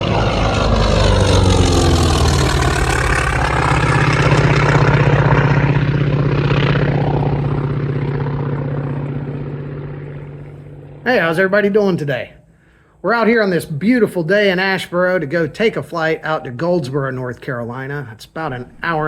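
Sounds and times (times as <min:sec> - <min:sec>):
propeller airplane engine passing: 0:00.0 - 0:19.0.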